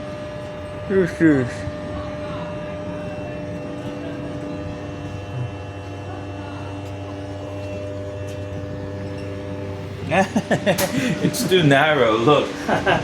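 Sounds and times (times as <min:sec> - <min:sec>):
lift electric drive hum: 0:00.0 - 0:13.0.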